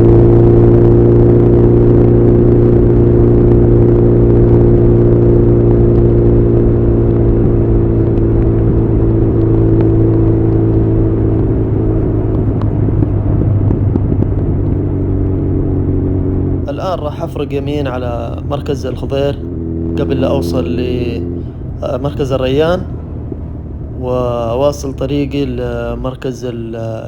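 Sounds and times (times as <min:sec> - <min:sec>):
motorcycle engine at steady revs: 0:00.0 - 0:27.0.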